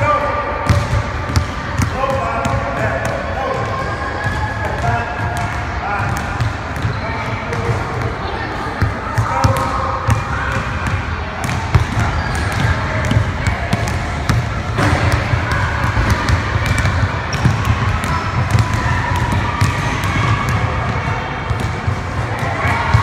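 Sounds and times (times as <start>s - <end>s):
basketballs bouncing on wooden floor: 0.6s - 23.0s.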